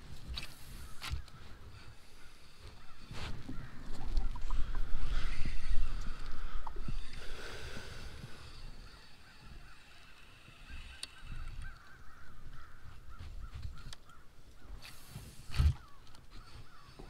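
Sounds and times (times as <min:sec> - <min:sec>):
faint wavering bird calls: 0:00.5 - 0:17.0.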